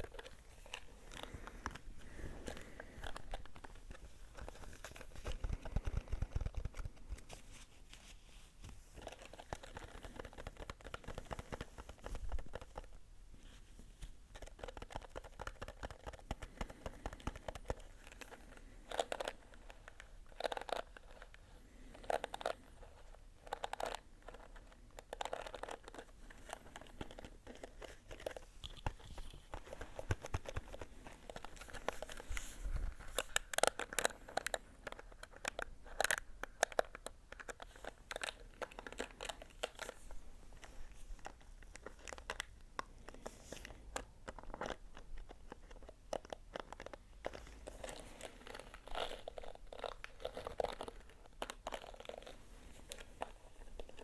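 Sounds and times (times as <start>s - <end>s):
crackly scratching and crinkling: 0.0s - 54.0s.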